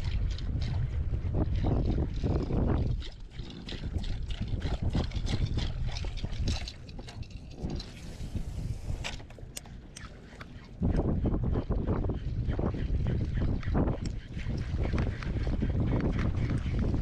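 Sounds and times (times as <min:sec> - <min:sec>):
water splashing around boat: 0:00.0 - 0:17.0
wind buffeting microphone: 0:00.0 - 0:17.0.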